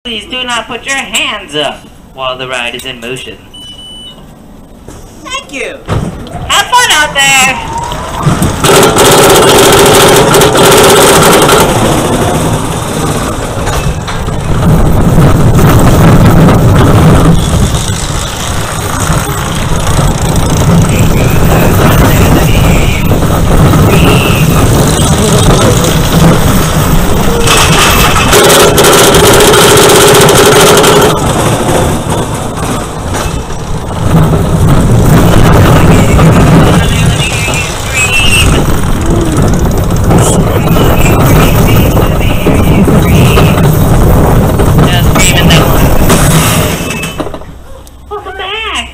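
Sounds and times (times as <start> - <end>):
roller coaster rumbling on track: 0.1 - 48.9.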